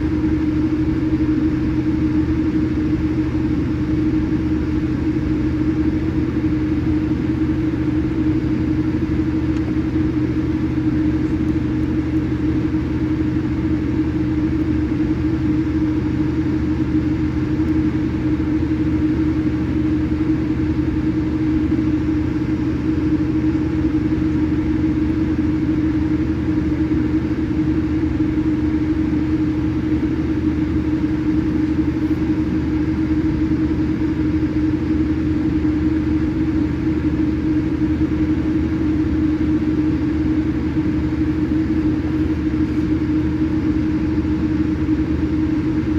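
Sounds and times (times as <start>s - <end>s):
airliner cabin drone: 0.0s - 45.9s.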